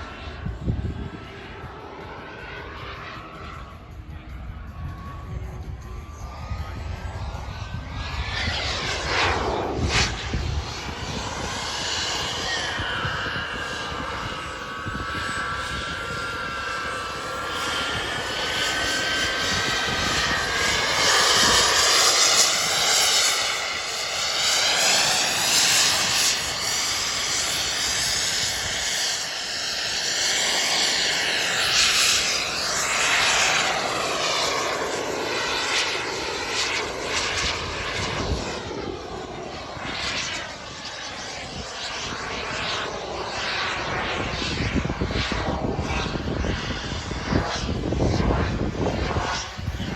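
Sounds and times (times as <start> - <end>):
model jet turbine whooshing: 5.1 - 49.9.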